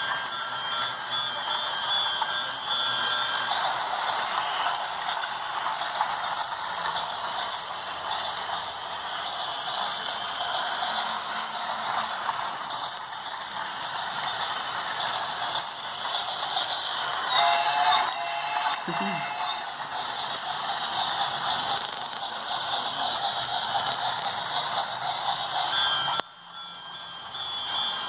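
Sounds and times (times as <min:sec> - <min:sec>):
toy train rattling on track: 0:00.0 - 0:28.0.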